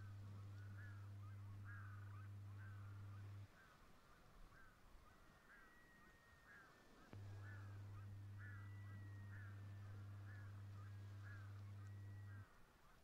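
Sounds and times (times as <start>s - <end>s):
faint bird calls: 0.0s - 13.0s
low steady hum: 0.0s - 13.0s.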